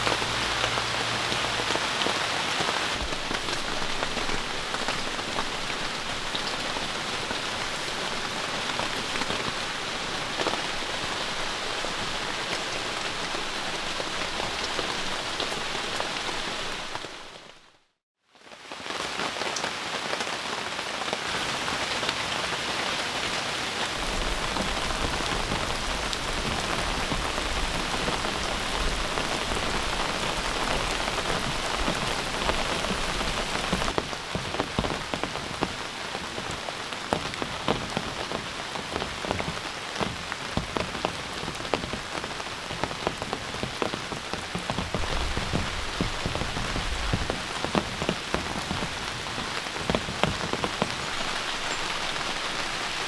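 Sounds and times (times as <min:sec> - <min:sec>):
raindrops striking: 0:00.0 - 0:17.8, 0:23.9 - 0:53.0
heavy rain pouring: 0:00.0 - 0:53.0.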